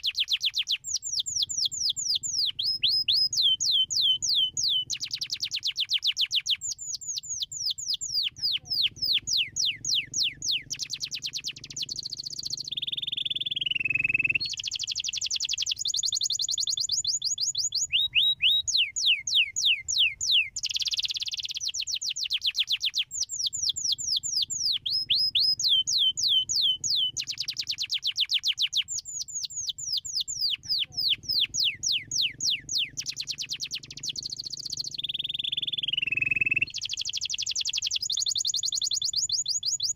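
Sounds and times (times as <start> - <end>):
descending whistle: 0.0 - 8.3, 9.1 - 39.9
canary singing trills: 0.0 - 39.9.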